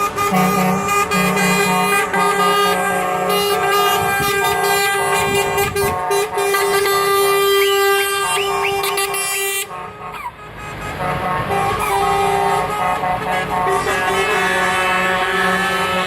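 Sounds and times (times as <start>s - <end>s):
truck air horns: 0.0s - 16.0s.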